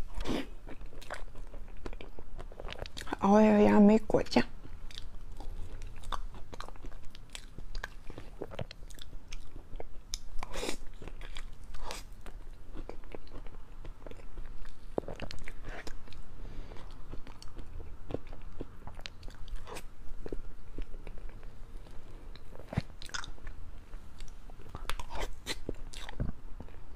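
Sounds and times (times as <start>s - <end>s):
chewing and wet mouth sounds: 0.0s - 3.3s, 4.2s - 26.9s.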